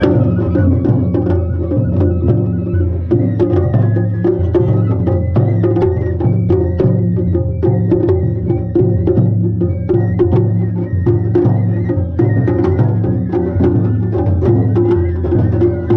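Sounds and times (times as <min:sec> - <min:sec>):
festival drumming: 0:00.0 - 0:15.9.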